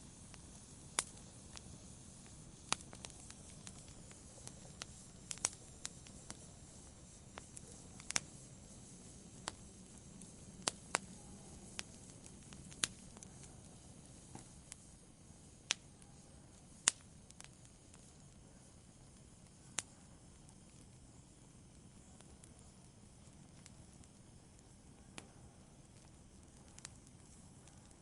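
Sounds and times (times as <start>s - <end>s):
burning wood crackling and popping: 0.0s - 28.0s
fire rushing: 0.0s - 28.0s.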